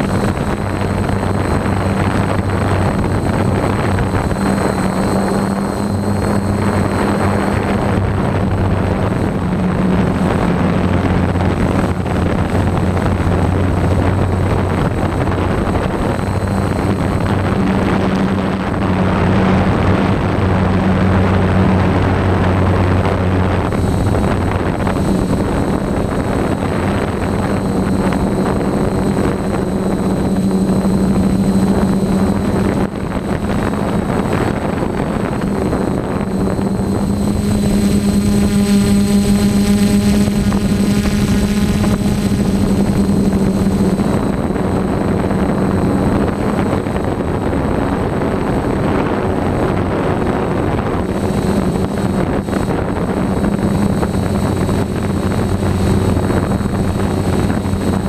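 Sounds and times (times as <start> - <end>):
drone motors buzzing: 0.0 - 58.0
higher whining tones: 0.0 - 58.0.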